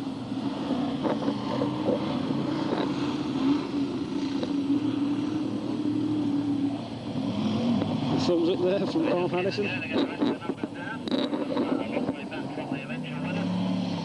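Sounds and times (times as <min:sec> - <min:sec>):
race car engines running: 0:00.0 - 0:14.0.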